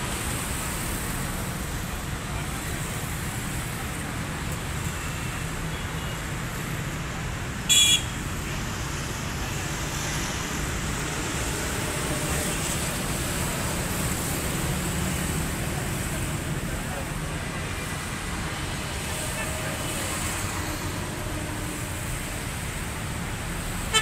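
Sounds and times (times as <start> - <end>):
distant road traffic hum: 0.0 - 24.0.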